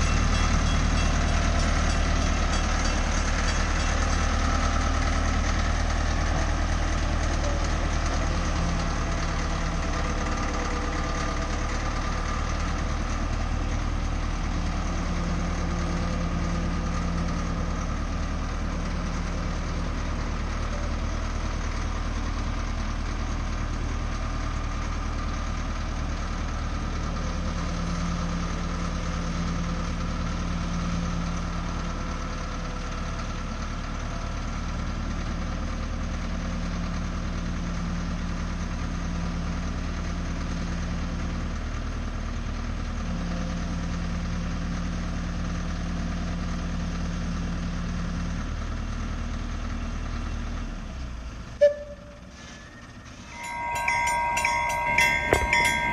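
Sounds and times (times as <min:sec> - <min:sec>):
diesel locomotive engine idling: 0:00.0 - 0:55.9.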